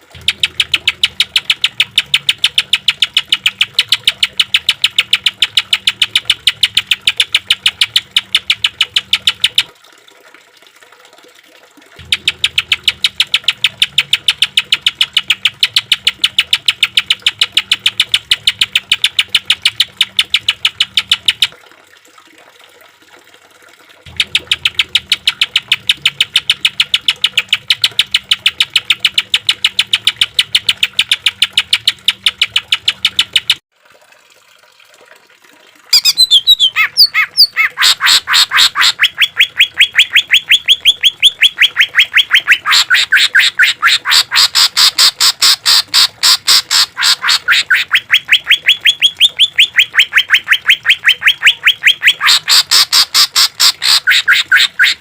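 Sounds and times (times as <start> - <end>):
bird singing rapid sharp notes: 0.1 - 9.6, 12.0 - 21.5, 24.1 - 33.6, 35.9 - 55.0.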